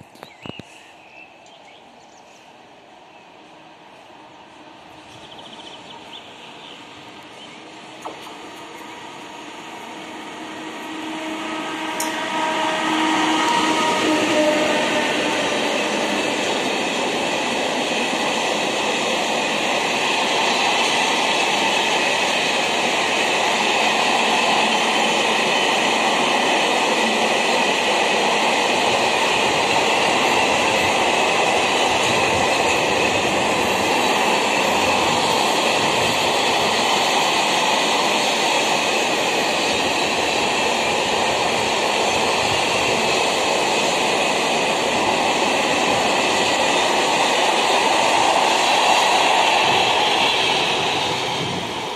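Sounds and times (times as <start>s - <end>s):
train wheels rushing on rails: 0.0s - 51.9s.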